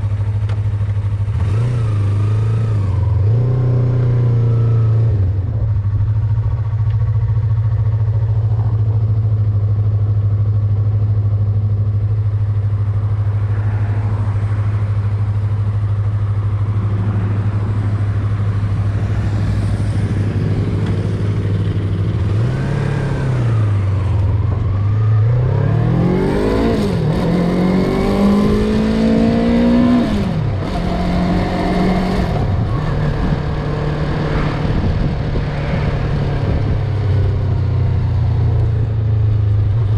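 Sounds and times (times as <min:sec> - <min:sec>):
motorcycle engine revving: 0:00.0 - 0:10.4, 0:11.2 - 0:39.9.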